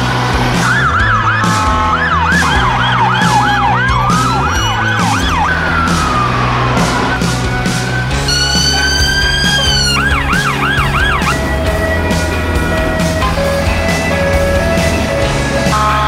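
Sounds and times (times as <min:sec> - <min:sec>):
background music with drum beat: 0:00.0 - 0:16.0
emergency vehicle siren: 0:00.0 - 0:16.0.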